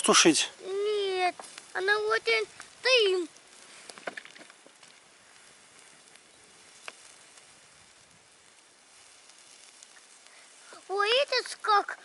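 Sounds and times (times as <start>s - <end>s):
campfire hissing and crackling: 0.0s - 12.0s.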